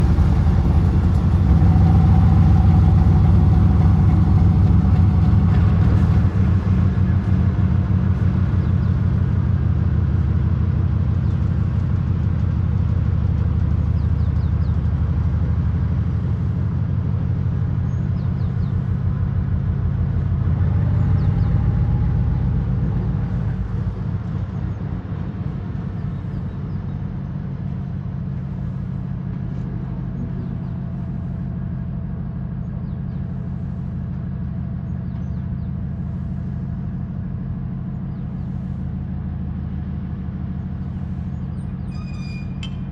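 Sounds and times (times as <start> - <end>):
diesel locomotive engine throbbing: 0.0 - 42.9.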